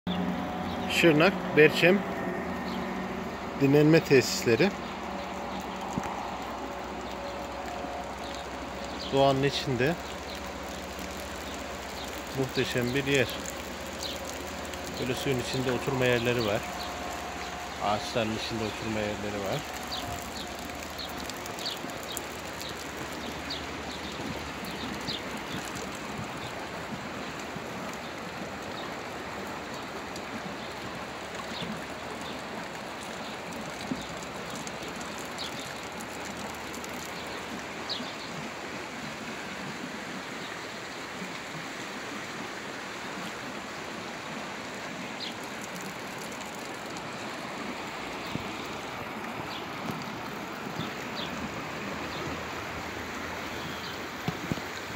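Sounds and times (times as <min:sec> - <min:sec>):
stream flowing over stones: 0:00.1 - 0:54.9.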